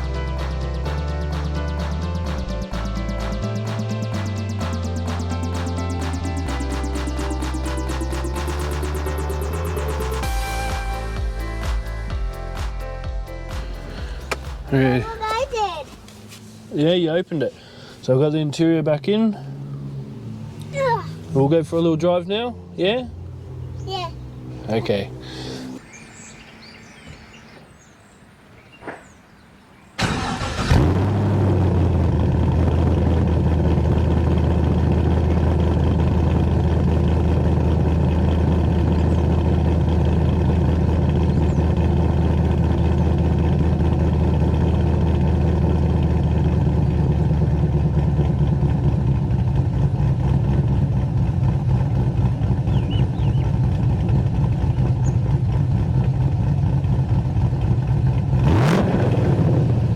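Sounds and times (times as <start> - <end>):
car engine starting and idling: 0.0 - 27.9, 29.8 - 59.9.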